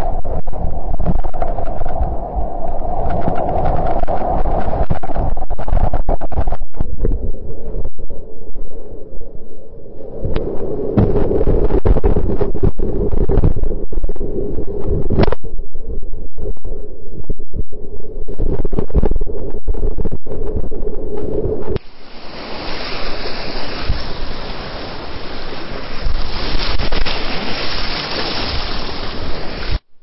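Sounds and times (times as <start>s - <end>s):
wind buffeting camera: 0.0s - 29.9s.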